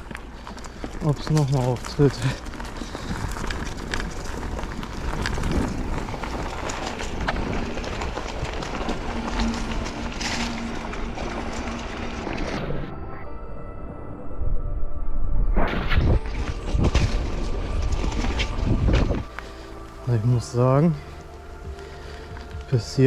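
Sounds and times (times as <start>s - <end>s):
tyre and wind noise: 0.0s - 12.9s, 15.4s - 23.0s.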